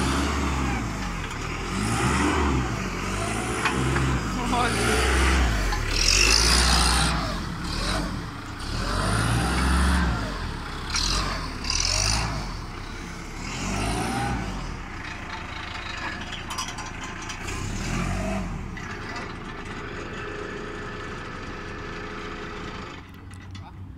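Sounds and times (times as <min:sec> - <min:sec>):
forklift engine revving: 0:00.0 - 0:23.4.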